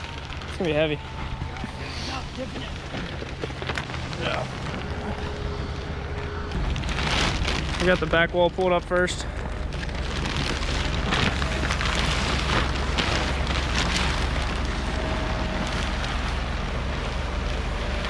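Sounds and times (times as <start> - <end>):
low rumble: 0.0 - 18.0
plastic sheeting rustling: 0.0 - 18.0.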